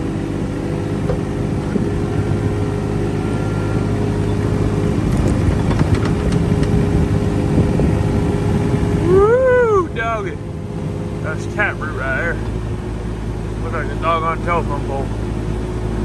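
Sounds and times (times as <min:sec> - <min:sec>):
excavator diesel engine running: 0:00.0 - 0:16.0
hydraulics working: 0:00.0 - 0:16.0.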